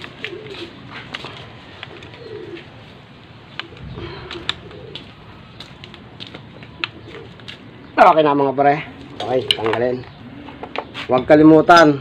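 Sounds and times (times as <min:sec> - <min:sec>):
dove cooing: 0:00.0 - 0:08.0, 0:08.7 - 0:11.1.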